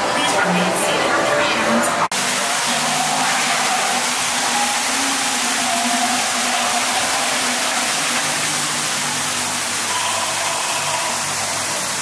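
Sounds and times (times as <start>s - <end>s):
waterfall rushing into pool: 2.1s - 12.0s.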